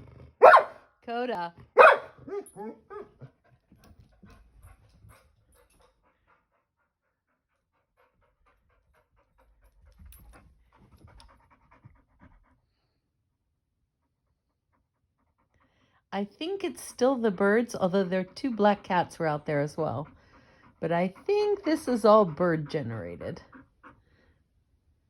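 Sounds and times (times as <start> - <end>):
dog panting: 1.5 - 25.0.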